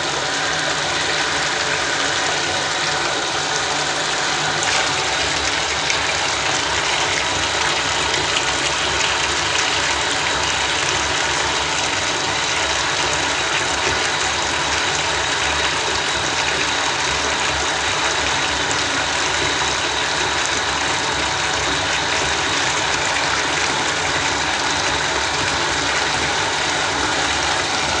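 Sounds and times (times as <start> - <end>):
tap water pouring into bathtub: 0.0 - 28.0.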